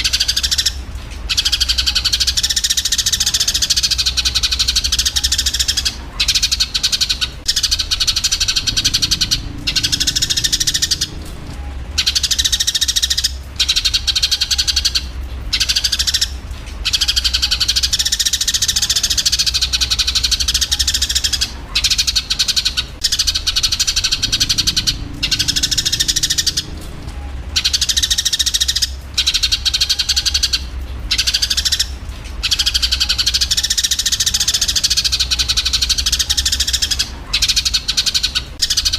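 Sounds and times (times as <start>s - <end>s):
sparrows chirping and chattering: 0.0s - 38.9s
steady low hum: 0.0s - 38.9s.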